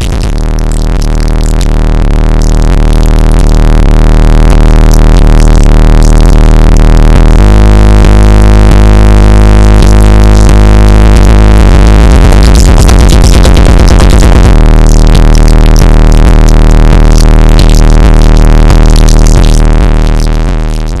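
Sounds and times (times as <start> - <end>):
loud electronic music with heavy bass: 0.0 - 21.0.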